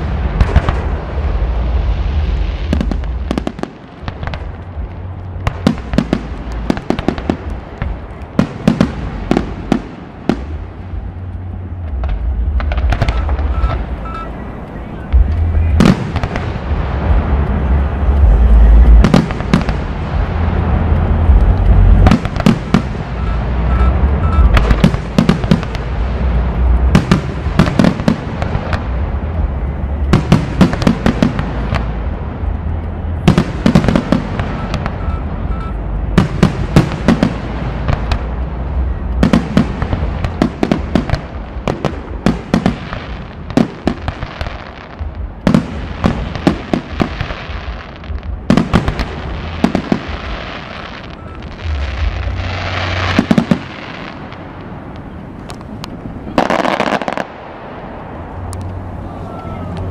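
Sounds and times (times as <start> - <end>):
fireworks bursting with sharp bangs: 0.0 - 59.9.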